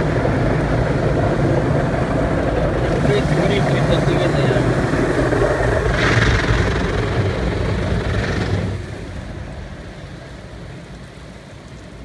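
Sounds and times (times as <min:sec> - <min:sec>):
car wash water and machinery: 0:00.0 - 0:12.0.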